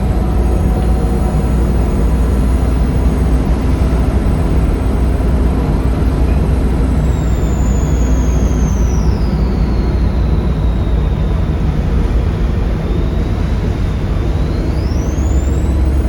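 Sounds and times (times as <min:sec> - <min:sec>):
bus diesel engine under load: 0:00.0 - 0:16.0
turbo whistle: 0:00.0 - 0:16.0.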